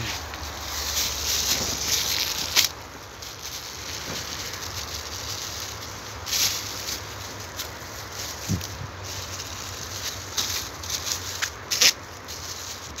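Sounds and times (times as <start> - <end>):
plastic bag crinkling: 0.0 - 13.0
sharp plastic crackle: 0.0 - 13.0.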